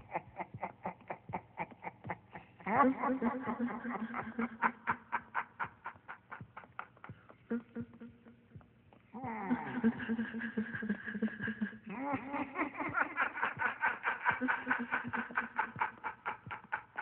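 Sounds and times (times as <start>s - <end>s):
rapid ha-ha laughter pulses: 0.0s - 8.3s, 9.2s - 17.0s.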